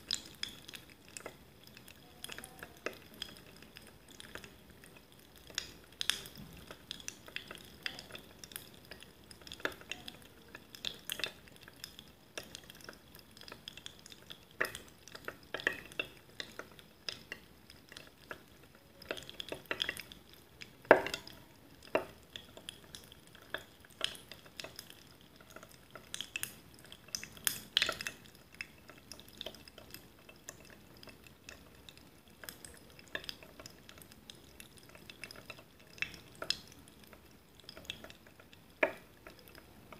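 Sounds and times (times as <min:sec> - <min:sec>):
carbonated water fizzing: 0:00.0 - 0:39.9.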